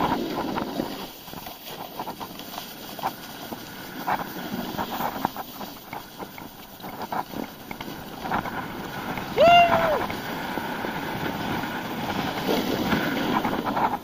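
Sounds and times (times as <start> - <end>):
snowboard sliding on snow: 0.0 - 14.0
wind on microphone: 0.0 - 14.0.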